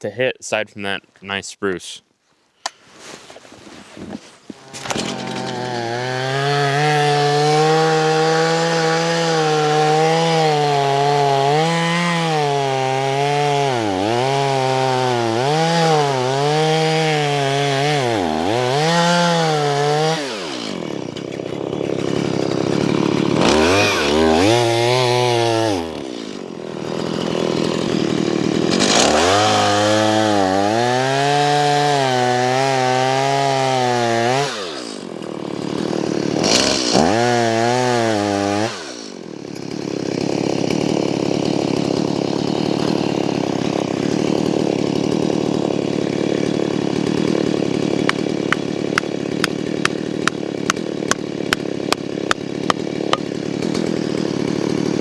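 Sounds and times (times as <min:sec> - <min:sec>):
chainsaw cutting tree: 0:03.7 - 0:55.0.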